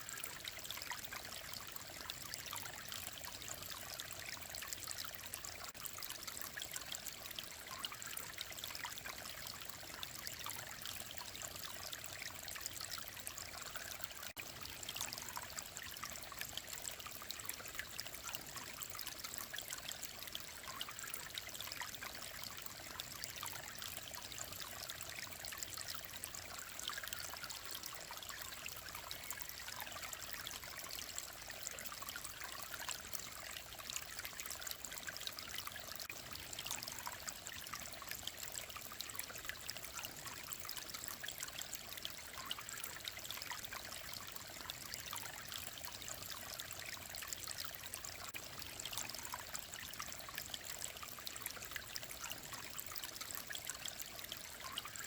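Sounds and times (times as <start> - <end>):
mountain stream babbling over rocks: 7.0 - 55.0.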